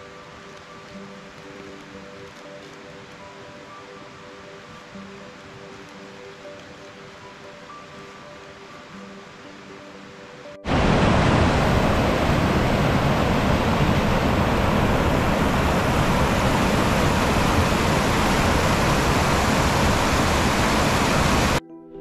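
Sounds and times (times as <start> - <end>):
stream rushing over boulders: 0.0 - 21.6.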